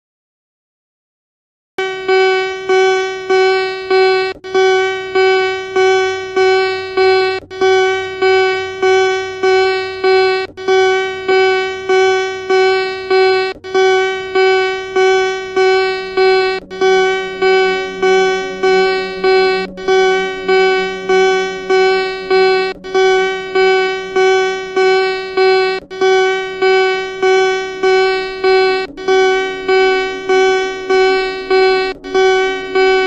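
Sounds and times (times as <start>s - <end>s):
emergency alert alarm beeps: 1.8s - 33.0s
low hum: 1.8s - 33.0s.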